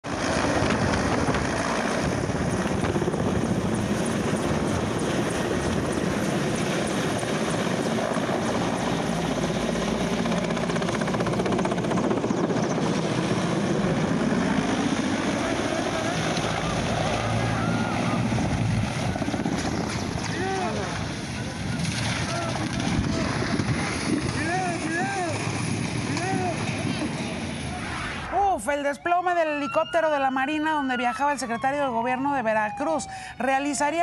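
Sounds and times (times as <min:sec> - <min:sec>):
helicopter flying overhead: 0:00.0 - 0:34.0.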